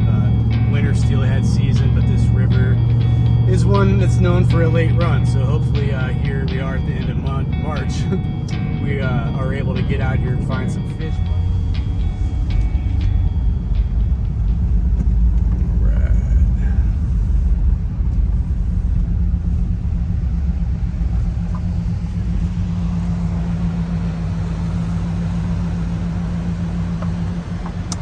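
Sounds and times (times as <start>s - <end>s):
car road and engine rumble: 0.0s - 28.0s
low engine hum: 0.0s - 28.0s.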